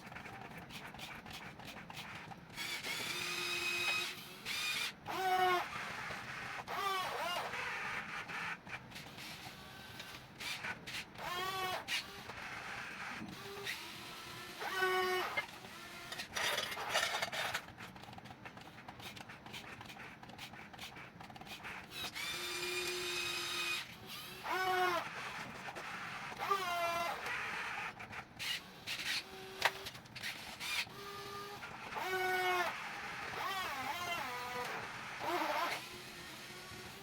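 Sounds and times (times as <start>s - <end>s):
small electric motors whining: 1.6s - 37.0s.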